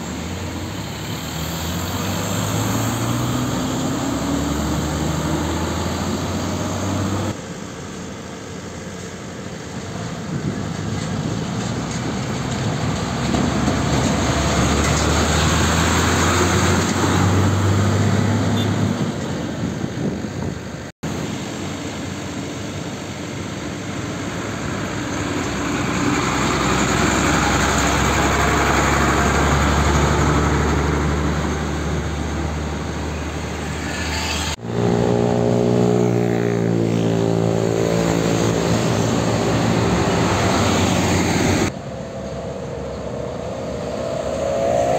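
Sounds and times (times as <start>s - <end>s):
diesel trucks driving past: 0.0s - 44.9s
road traffic: 0.0s - 44.9s.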